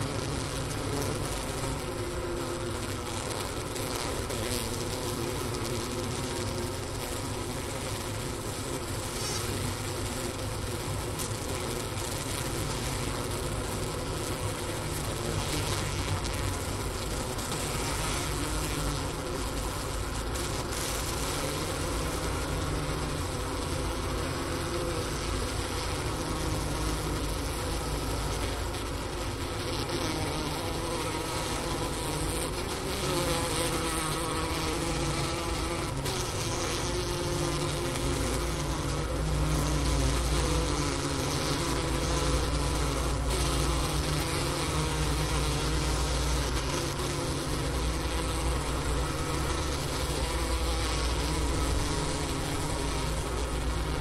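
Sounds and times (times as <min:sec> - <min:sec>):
bees humming in hive: 0:00.0 - 0:54.0.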